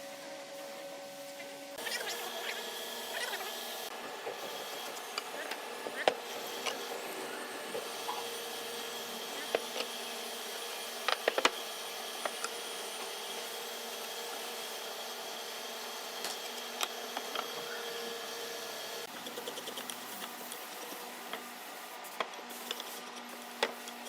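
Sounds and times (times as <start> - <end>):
workshop machine humming: 0.0 - 24.0.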